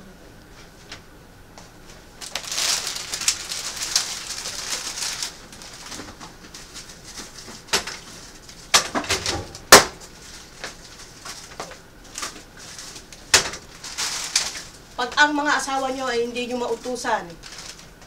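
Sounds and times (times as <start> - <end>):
plastic bags rustling: 1.8 - 18.0.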